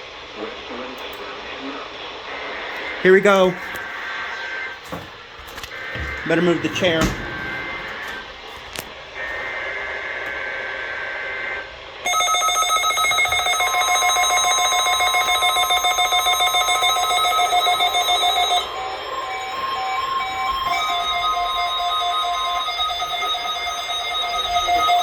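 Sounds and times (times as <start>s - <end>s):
steady alarm tone: 2.9s - 9.8s, 11.3s - 25.0s.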